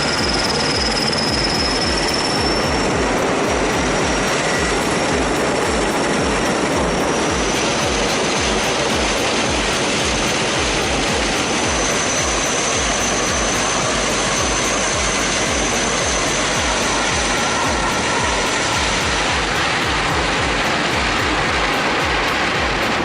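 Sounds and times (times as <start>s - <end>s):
helicopter rotor beat: 0.0s - 23.0s
high turbine whine: 0.0s - 23.0s.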